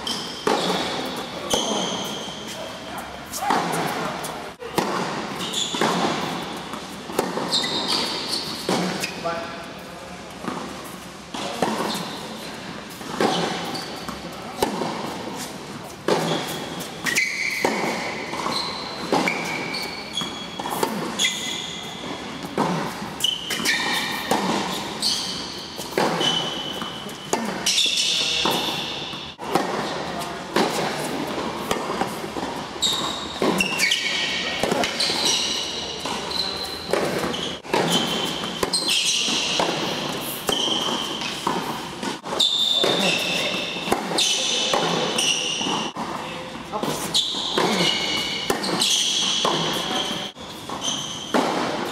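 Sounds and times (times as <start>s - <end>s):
tennis shoes squeaking on court: 0.0s - 9.6s, 10.3s - 51.9s.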